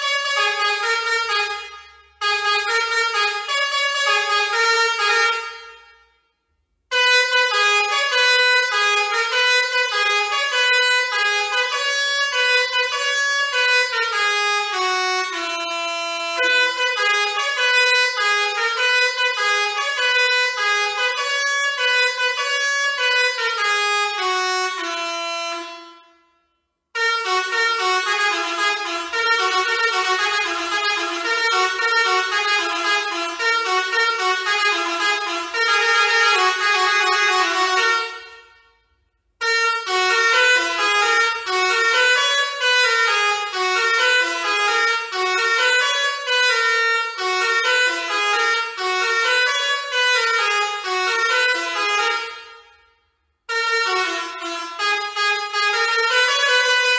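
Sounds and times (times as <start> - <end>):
musical air horn melody: 0.0 - 56.9.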